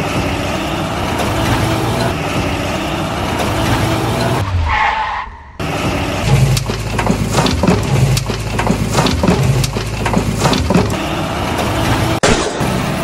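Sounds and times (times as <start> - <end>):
steady engine hum: 0.0 - 13.0.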